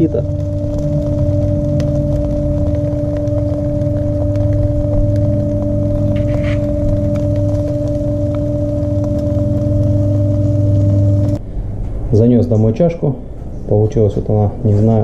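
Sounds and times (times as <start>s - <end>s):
gas grill burners roaring: 0.0s - 15.0s.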